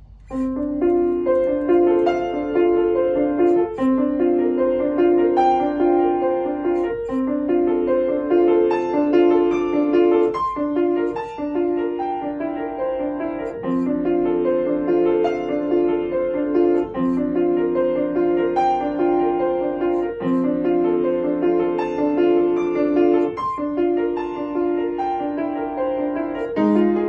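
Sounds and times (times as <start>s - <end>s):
solo piano playing: 0.0s - 27.0s.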